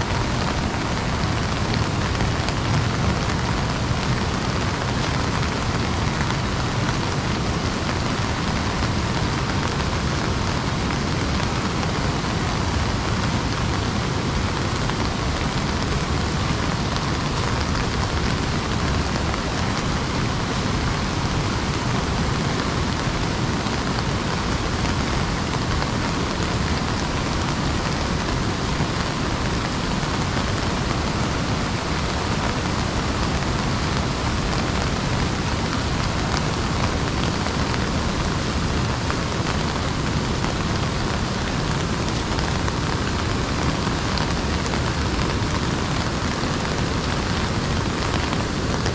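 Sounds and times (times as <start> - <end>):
rain on an umbrella: 0.0 - 48.9.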